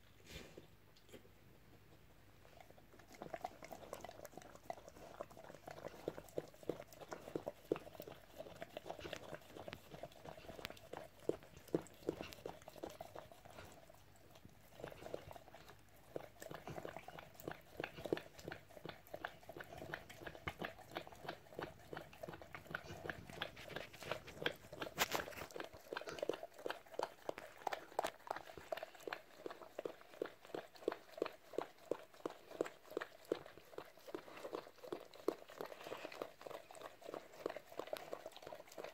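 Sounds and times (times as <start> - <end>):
dog licking wetly: 2.4 - 38.9.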